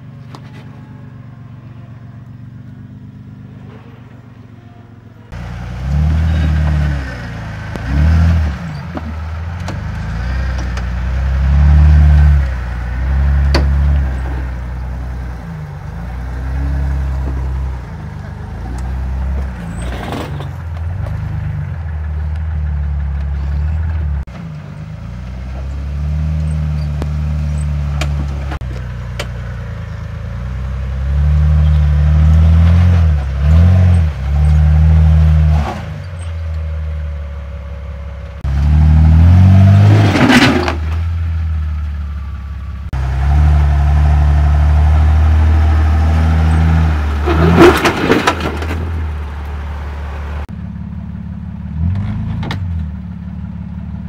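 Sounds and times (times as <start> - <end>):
off-road engine revving: 0.0 - 54.0.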